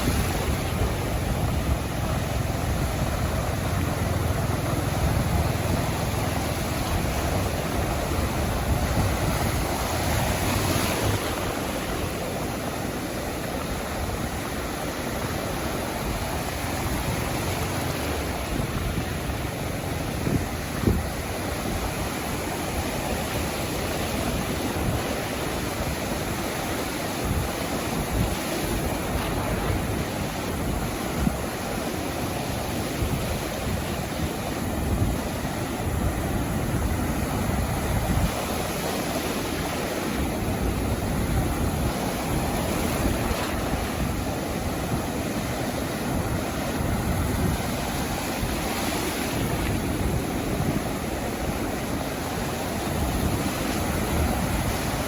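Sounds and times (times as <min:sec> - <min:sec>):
surf washing onto beach: 0:00.0 - 0:55.0
wind buffeting microphone: 0:00.0 - 0:55.0.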